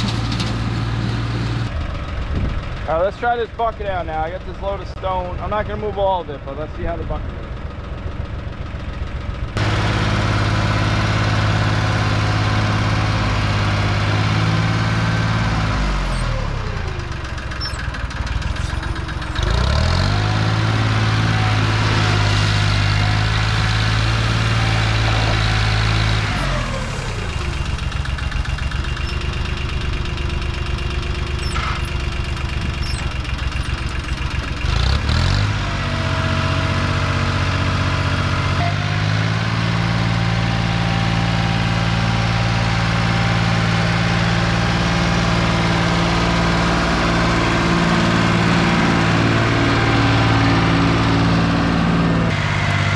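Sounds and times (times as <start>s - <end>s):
tractor engine revving: 0.0s - 52.9s.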